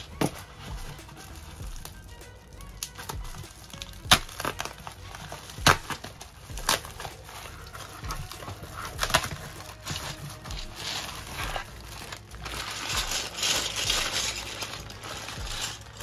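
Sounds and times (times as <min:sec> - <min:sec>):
faint background music: 0:00.0 - 0:16.0
plastic packaging crinkling: 0:00.0 - 0:16.0.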